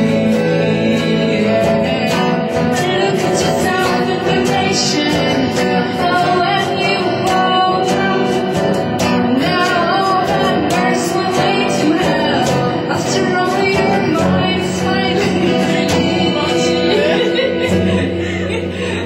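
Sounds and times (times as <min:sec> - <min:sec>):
guitar accompaniment: 0:00.0 - 0:19.0
woman singing: 0:00.0 - 0:19.0.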